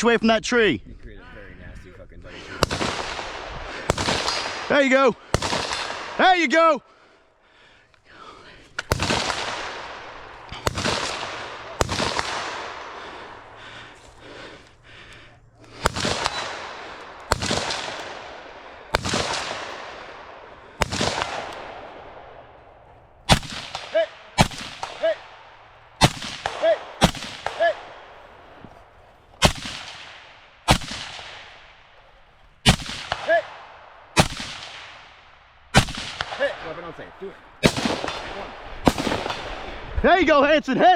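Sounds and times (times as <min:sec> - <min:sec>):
gunshots echoing: 0:02.4 - 0:06.7, 0:08.1 - 0:40.0.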